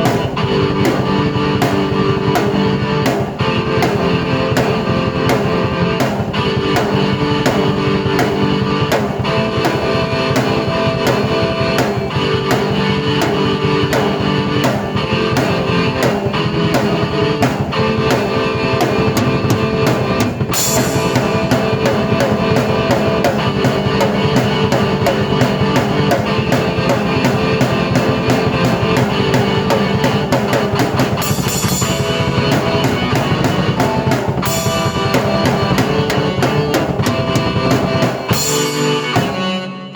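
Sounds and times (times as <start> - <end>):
drum beat: 0.0 - 39.5
keyboard: 0.0 - 39.9.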